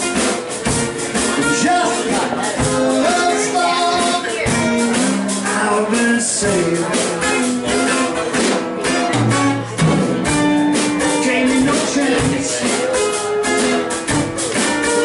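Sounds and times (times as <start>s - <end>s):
acoustic guitar strumming: 0.0s - 15.0s
drum kit beat: 0.0s - 15.0s.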